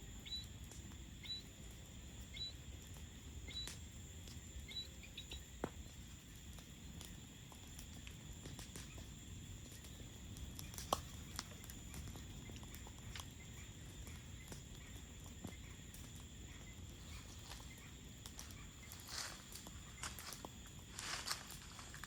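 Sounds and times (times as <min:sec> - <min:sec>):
campfire crackling and popping: 0:00.0 - 0:22.0
crickets chirping: 0:00.0 - 0:22.0.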